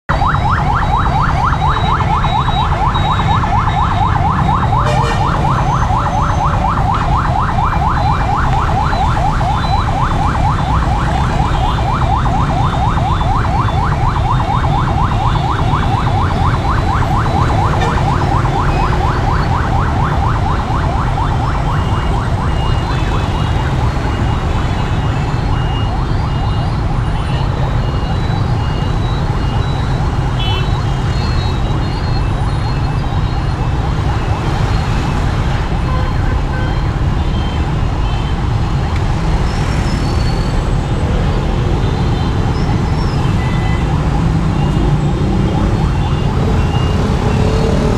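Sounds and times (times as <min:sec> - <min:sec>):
motorbike traffic rumble: 0:00.2 - 0:47.9.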